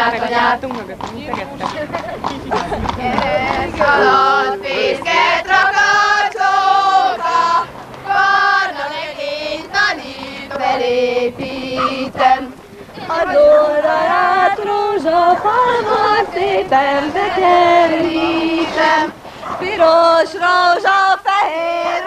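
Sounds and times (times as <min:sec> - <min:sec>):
girls singing together: 0:00.0 - 0:00.7, 0:02.5 - 0:22.0.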